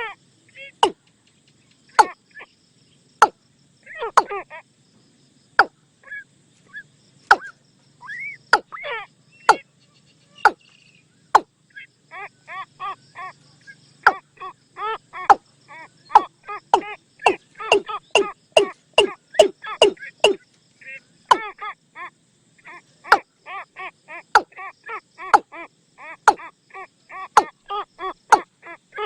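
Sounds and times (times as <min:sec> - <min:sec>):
bird calls with chattering notes: 0:00.0 - 0:04.7, 0:05.6 - 0:29.0.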